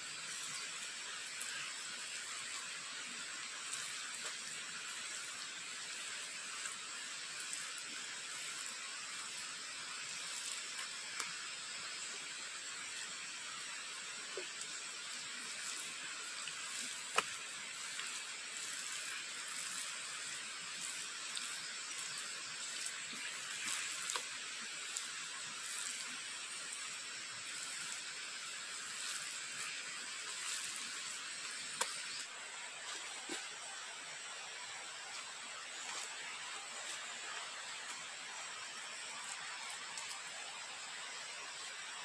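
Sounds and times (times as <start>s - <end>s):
fire crackling and popping: 0.0s - 33.7s, 35.1s - 40.9s
wood fire hissing: 0.0s - 42.0s.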